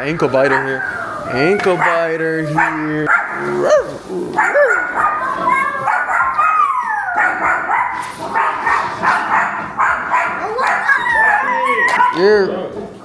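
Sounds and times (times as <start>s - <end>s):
small dog barking: 0.4s - 12.2s.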